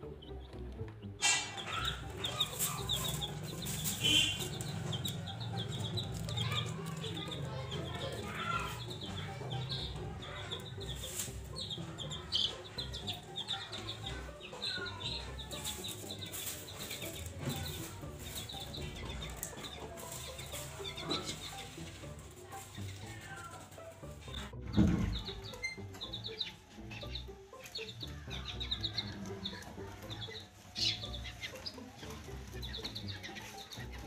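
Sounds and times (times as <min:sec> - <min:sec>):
baby chicks peeping: 0:00.0 - 0:34.0.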